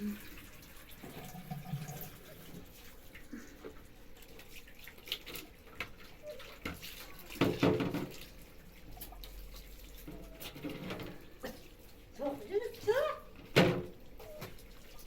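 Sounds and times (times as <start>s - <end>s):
splashing and clinks of hand washing: 0.0s - 15.0s
water running from a tap: 0.0s - 15.0s.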